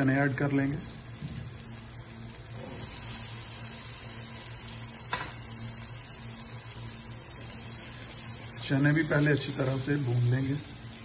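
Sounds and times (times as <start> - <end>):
low steady hum: 0.0 - 11.0
oil sizzling in a pot: 0.0 - 11.0.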